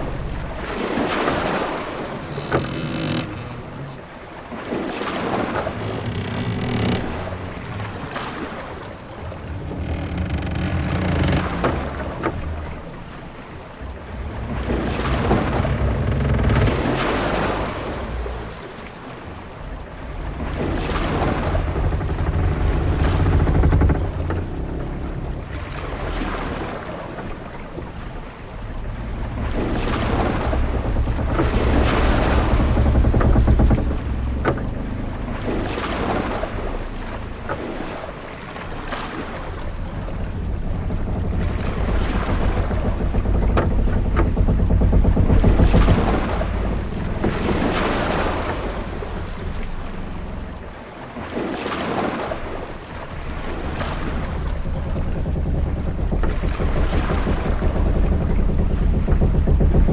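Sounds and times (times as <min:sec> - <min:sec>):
low rumble: 0:00.0 - 0:04.4, 0:05.1 - 0:51.4, 0:52.0 - 0:59.9
short knocks: 0:00.0 - 0:50.8, 0:52.4 - 0:59.9
waves washing against hull: 0:00.0 - 0:59.9
wind: 0:00.0 - 0:59.9.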